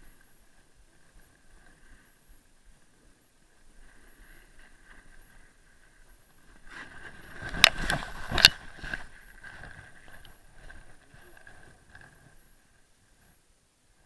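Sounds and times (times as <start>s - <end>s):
rustling in snow: 0.0s - 14.0s
sliding and scraping through snow: 0.4s - 13.1s.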